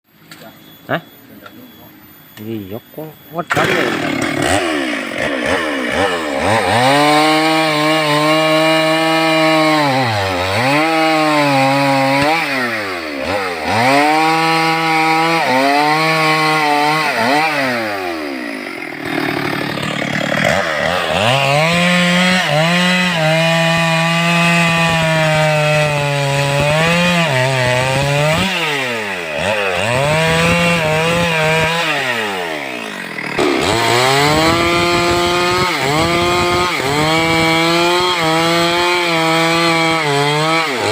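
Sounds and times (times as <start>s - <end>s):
chainsaw revving: 3.4s - 40.9s.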